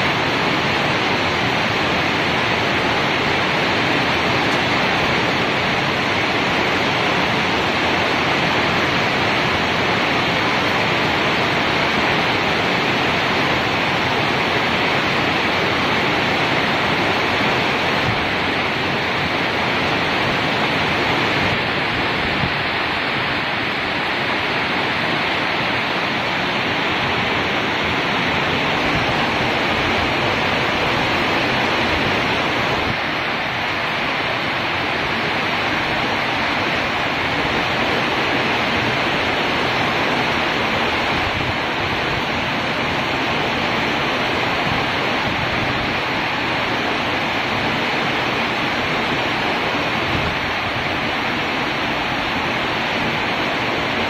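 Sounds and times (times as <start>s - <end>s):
rain falling steadily: 0.0s - 54.0s.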